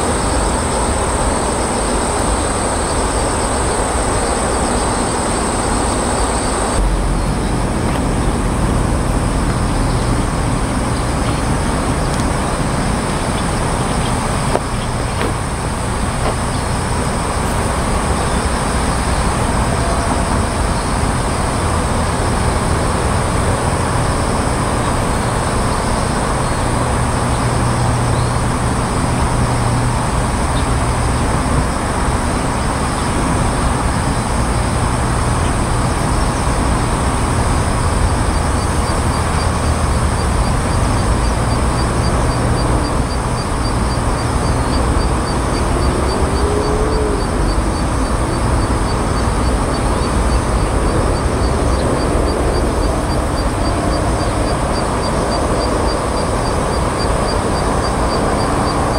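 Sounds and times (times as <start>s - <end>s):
high hiss: 0.0s - 58.9s
road traffic rumble: 0.0s - 58.9s.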